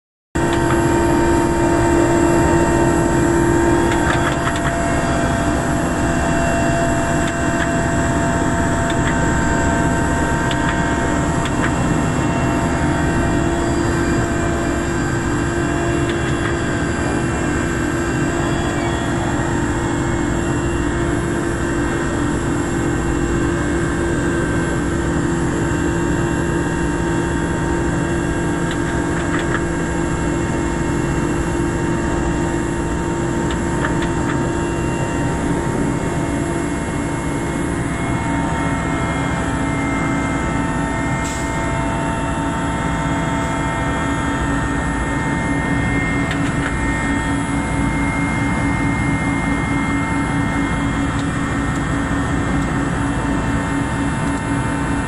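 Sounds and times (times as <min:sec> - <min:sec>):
helicopter engine and rotor: 0:00.4 - 0:55.0.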